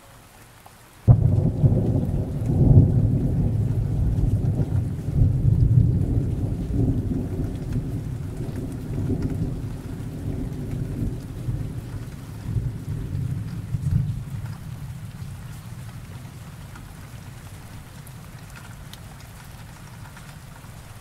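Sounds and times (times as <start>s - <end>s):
steady rain: 0.0s - 21.0s
thunder rumbling: 1.1s - 21.0s.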